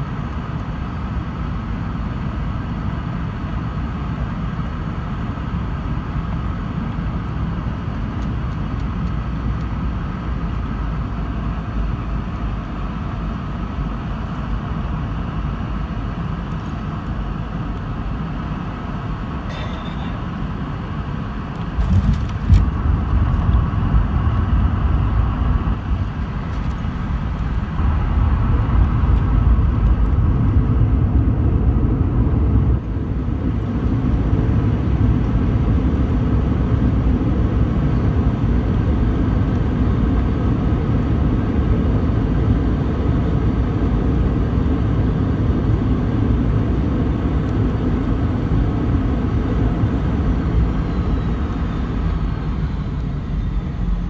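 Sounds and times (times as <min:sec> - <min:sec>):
jet cabin rumble and engine drone: 0:00.0 - 0:54.0.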